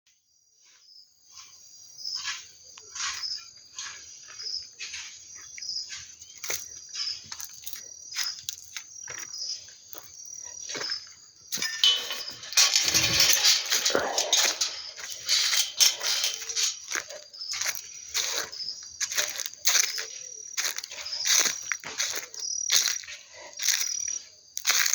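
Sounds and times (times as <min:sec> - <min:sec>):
crickets chirping: 0:00.3 - 0:24.9.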